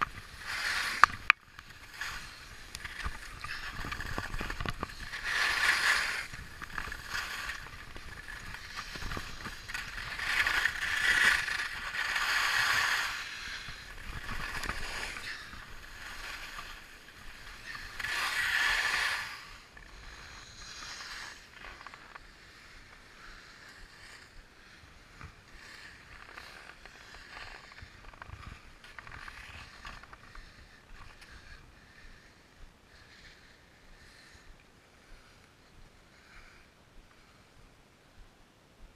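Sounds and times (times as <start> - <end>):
skis scraping over snow: 0.0 - 34.5.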